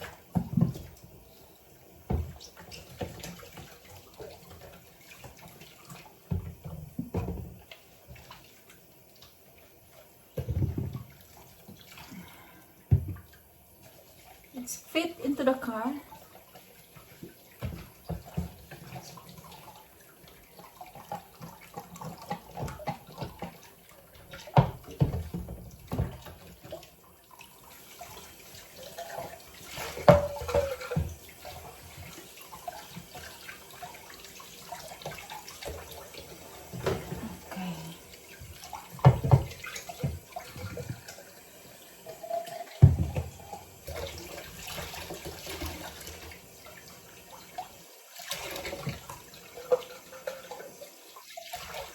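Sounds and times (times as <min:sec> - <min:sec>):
tap water running into sink: 0:00.0 - 0:51.9.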